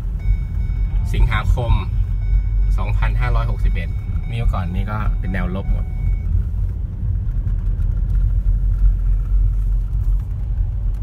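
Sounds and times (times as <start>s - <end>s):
car driving on dirt road: 0.0s - 11.0s.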